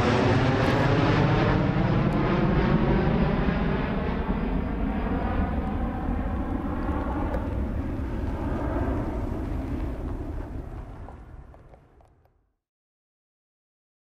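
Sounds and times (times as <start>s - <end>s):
jet airliner roar: 0.0s - 12.3s.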